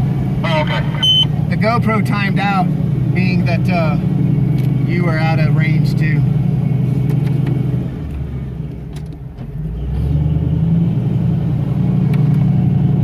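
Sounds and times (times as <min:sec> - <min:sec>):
off-road vehicle engine droning: 0:00.0 - 0:13.0.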